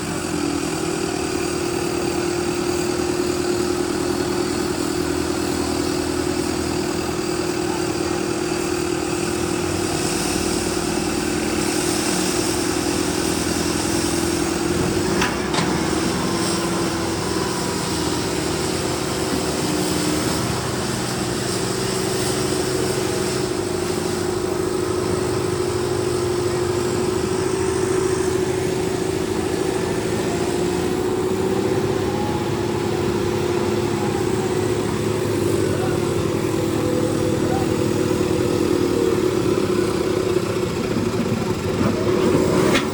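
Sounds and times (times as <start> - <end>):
tractor diesel engine droning: 0.0 - 42.9.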